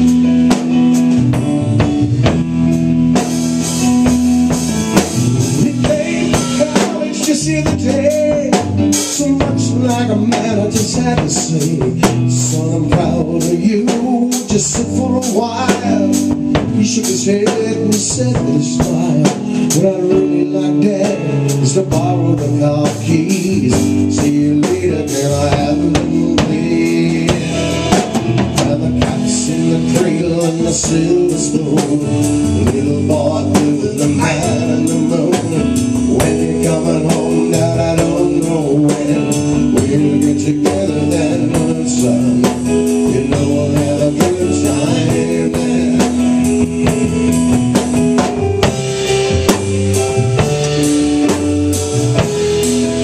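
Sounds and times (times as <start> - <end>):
drum kit steady beat: 0.0 - 53.0
keyboard held notes: 0.0 - 53.0
man singing: 4.5 - 53.0.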